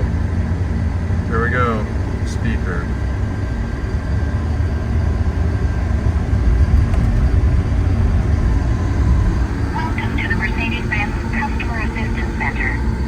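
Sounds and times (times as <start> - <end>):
diesel engine rumble in cabin: 0.0 - 13.0.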